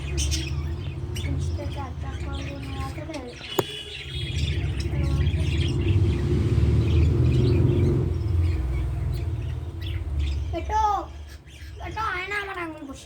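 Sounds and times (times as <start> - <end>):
baby birds chirping: 0.0 - 13.0.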